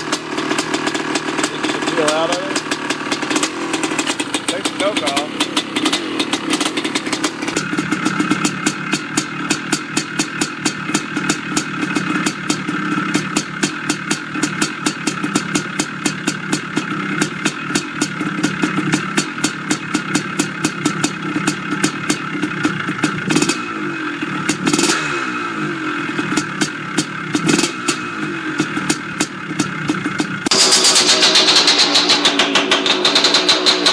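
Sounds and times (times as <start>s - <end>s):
two-stroke dirt bike engine: 0.0s - 33.9s.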